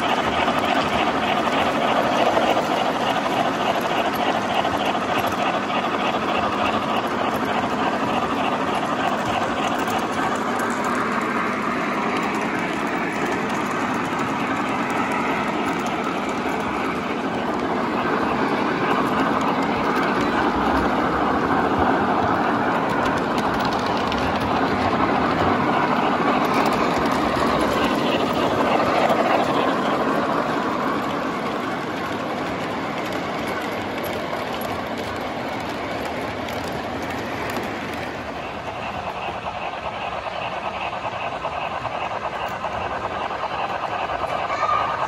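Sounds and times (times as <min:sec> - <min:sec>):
model trains rolling clatter: 0:00.0 - 0:45.0.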